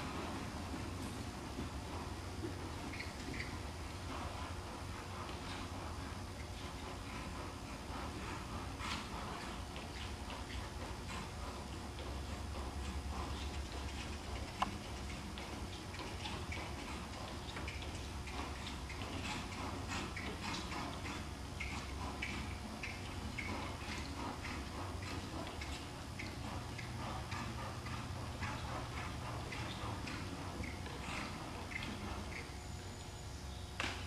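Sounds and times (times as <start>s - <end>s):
horse hooves trotting on sand: 0.0s - 34.0s
steady low hum: 0.0s - 34.0s.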